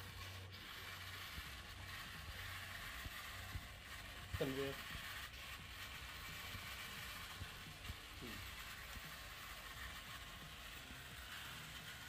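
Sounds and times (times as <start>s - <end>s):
small electric motor running: 0.0s - 12.0s.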